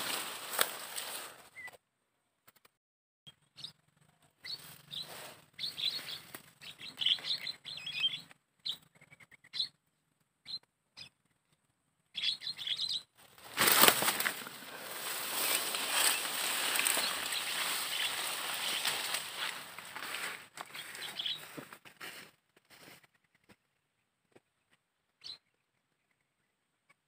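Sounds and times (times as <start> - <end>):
small birds chirping: 0.0 - 1.8, 3.3 - 21.8, 22.8 - 27.0.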